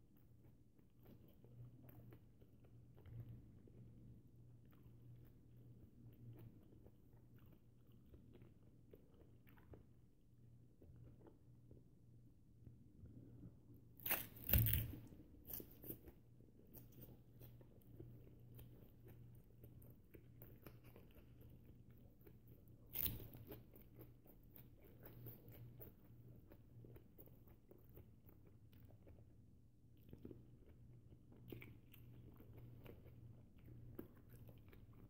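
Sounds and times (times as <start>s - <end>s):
person chewing with crunches: 0.0s - 12.0s, 13.0s - 35.0s.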